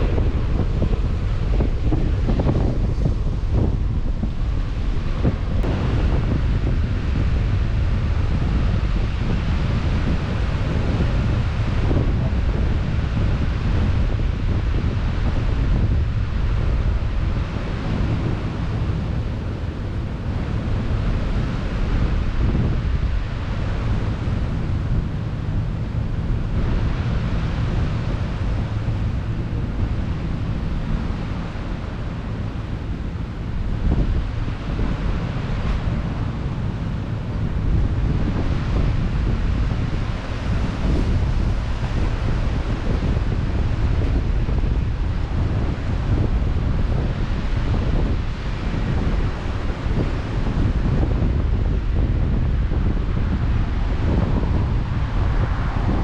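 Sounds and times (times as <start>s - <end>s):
sea waves washing: 0.0s - 56.0s
wind buffeting microphone: 0.0s - 56.0s.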